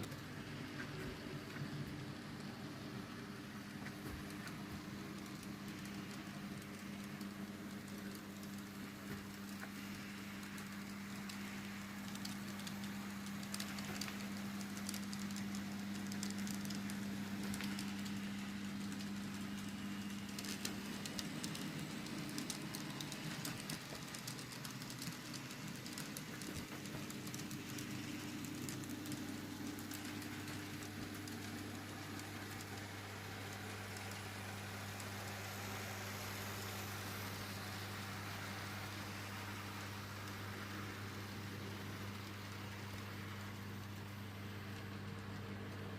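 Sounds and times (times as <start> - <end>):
wheels ticking over rail joints: 0.0 - 37.5
model train motor hum: 0.0 - 45.0.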